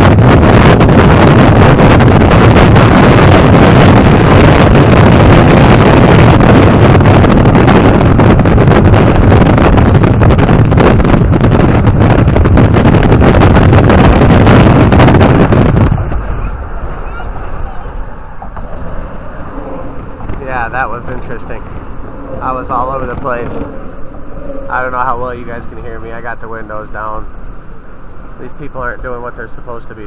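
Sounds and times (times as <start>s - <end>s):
wind buffeting through car windows: 0.0s - 30.0s.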